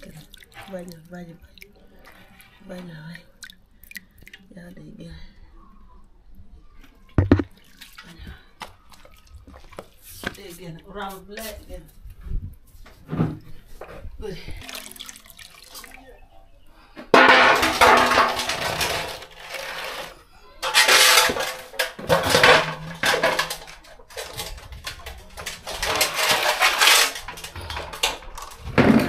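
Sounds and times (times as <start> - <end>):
water sloshing in metal basins: 0.0 - 5.4, 6.8 - 29.0.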